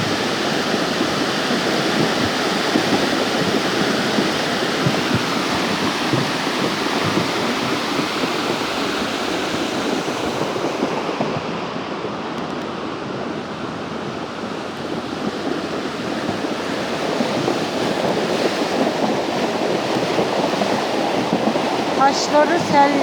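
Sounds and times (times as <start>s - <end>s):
creek rushing in flood: 0.0s - 23.0s
heavy rain: 0.0s - 23.0s.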